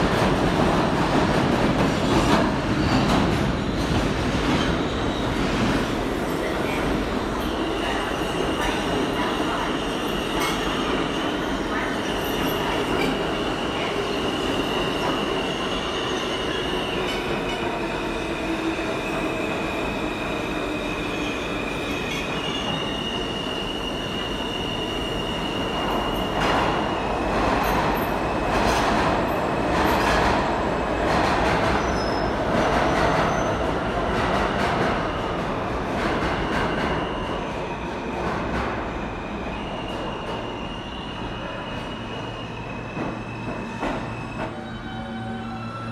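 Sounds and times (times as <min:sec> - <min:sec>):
train rail noise with whine: 0:00.0 - 0:45.9.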